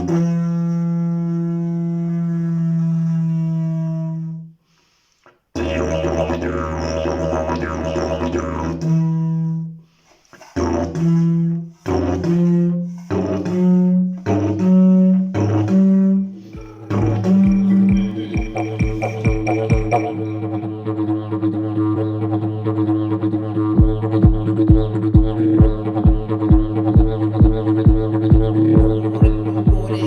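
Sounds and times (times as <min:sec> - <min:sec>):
didgeridoo drone and toots: 0:00.0 - 0:04.4, 0:05.6 - 0:09.7, 0:10.4 - 0:30.0.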